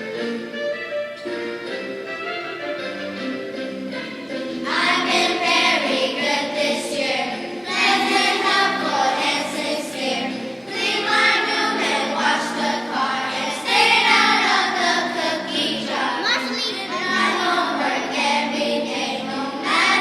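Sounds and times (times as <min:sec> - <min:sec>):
children's choir singing: 0:02.8 - 0:20.0.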